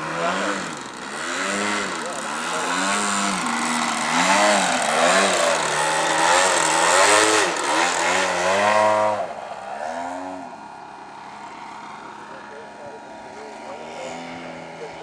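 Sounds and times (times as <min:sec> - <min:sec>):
model plane motor and propeller: 0:00.0 - 0:15.0.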